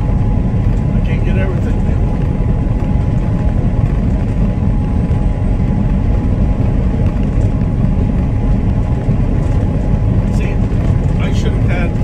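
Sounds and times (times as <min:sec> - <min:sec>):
vehicle interior road rumble: 0:00.0 - 0:12.0.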